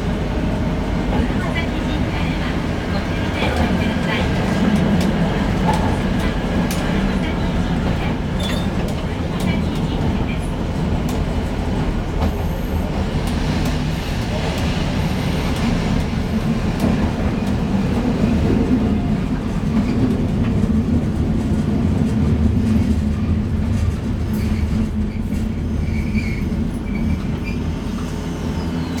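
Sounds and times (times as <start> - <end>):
tram rumbling along track: 0.0 - 29.0.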